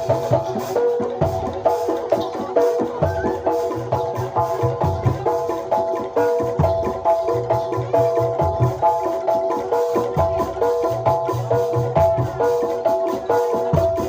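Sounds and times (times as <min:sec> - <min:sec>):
low drum beats: 0:00.0 - 0:14.0
metal gamelan percussion: 0:00.0 - 0:14.0.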